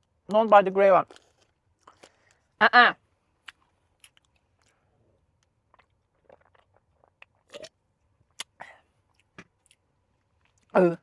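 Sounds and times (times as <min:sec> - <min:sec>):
chewing crunchy wafer: 0:00.9 - 0:02.5, 0:03.4 - 0:10.8.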